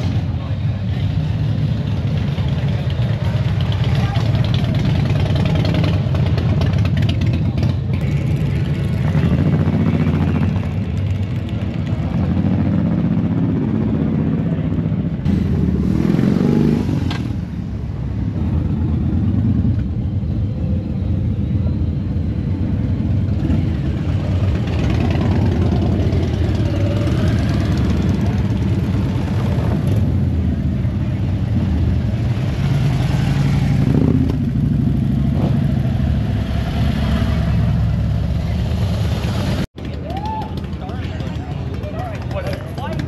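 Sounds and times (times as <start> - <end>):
motorcycle engines rumbling: 0.0 - 43.0
motorcycle revving: 0.0 - 43.0.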